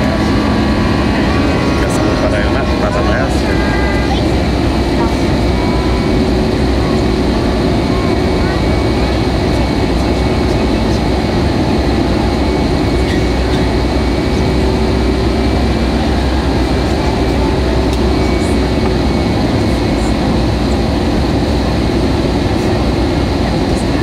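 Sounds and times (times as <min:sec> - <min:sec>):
jet engine and airflow in cabin: 0:00.0 - 0:24.0.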